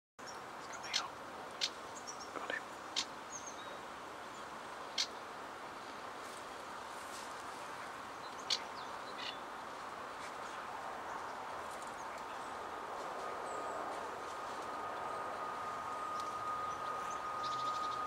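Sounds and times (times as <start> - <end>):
background hiss: 0.2 - 18.0.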